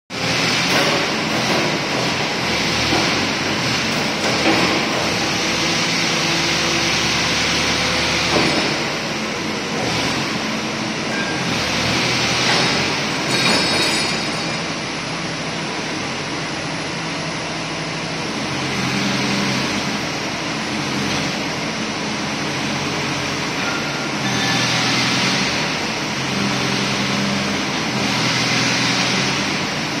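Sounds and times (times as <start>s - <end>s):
excavator diesel engine under load: 0.1s - 30.0s.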